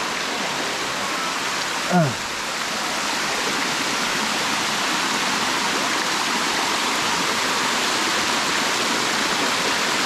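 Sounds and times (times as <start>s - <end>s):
waterfall rushing over rocks: 0.0s - 10.0s.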